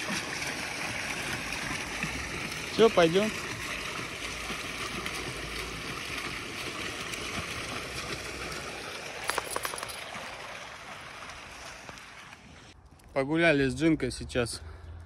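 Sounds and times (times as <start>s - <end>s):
running water rushing: 0.0s - 12.8s.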